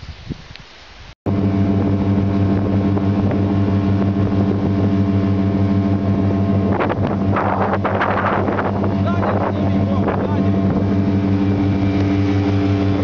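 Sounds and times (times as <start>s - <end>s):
outboard motor droning: 1.3s - 13.0s.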